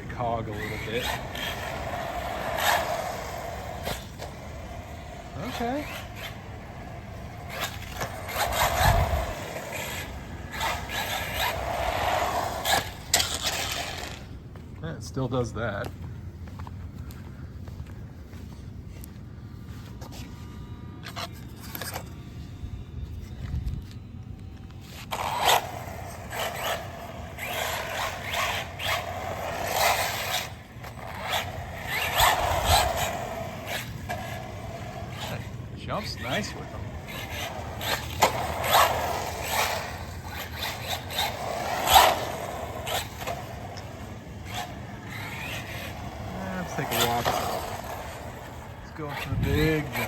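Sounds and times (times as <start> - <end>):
electric motor whine: 0.0 - 14.6, 20.3 - 50.0
toy car tyres rasping over ground: 0.0 - 19.2, 21.0 - 22.2, 24.6 - 50.0.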